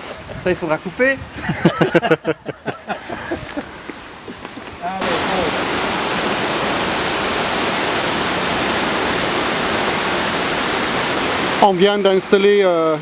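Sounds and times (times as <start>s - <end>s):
river water pouring over weir: 0.0s - 13.0s.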